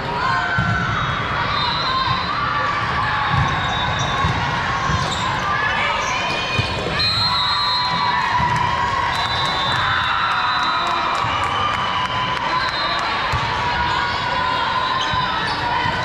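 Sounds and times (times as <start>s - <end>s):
voices of players and spectators: 0.0s - 16.0s.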